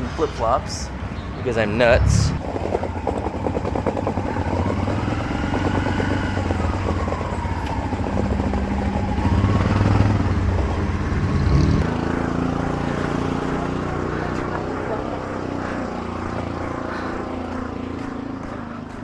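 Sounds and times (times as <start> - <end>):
vehicle engine running: 2.1 - 19.0.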